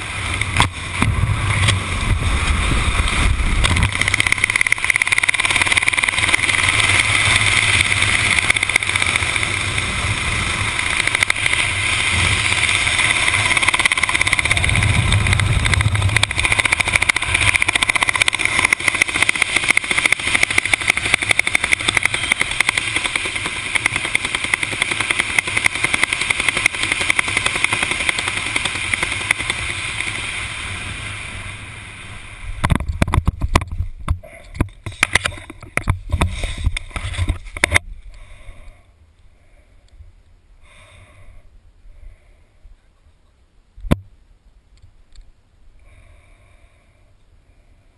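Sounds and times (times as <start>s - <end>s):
wind rushing over microphone: 0.0s - 38.7s.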